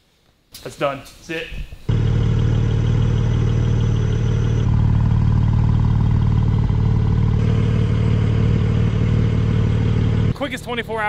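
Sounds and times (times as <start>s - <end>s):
car engine idling: 1.9s - 10.8s.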